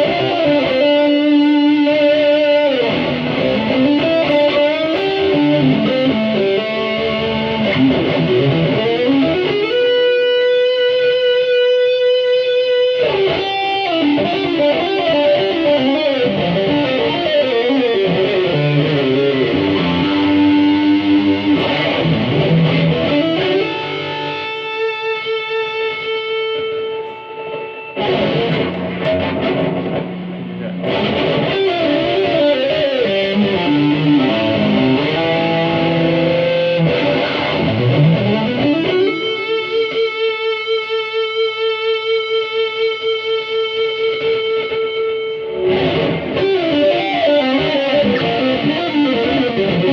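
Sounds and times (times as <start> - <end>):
electric guitar lead lines: 0.0 - 49.9.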